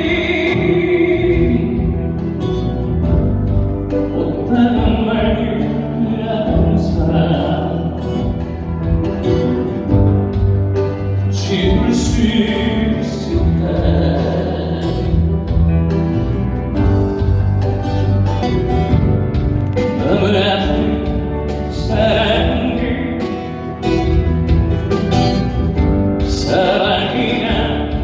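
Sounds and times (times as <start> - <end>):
held bass notes: 0.0 - 28.0.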